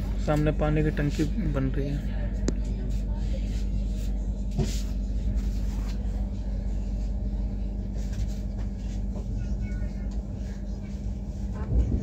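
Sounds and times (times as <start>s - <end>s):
train rumbling and humming: 0.0s - 12.0s.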